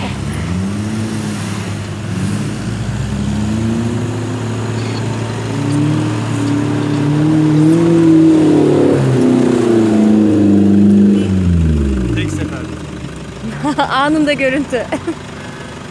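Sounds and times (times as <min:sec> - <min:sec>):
off-road engine revving: 0:00.0 - 0:15.9.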